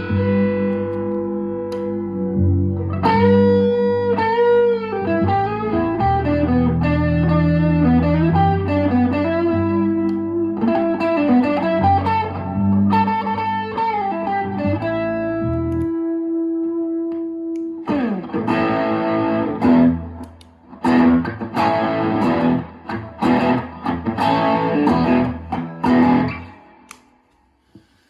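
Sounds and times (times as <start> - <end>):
electric guitar playing: 0.0 - 27.3.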